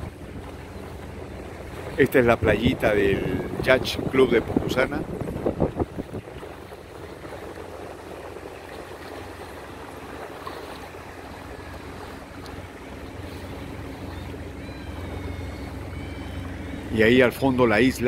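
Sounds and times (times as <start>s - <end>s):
boat motor humming: 0.0s - 18.0s
water wash: 0.0s - 18.0s.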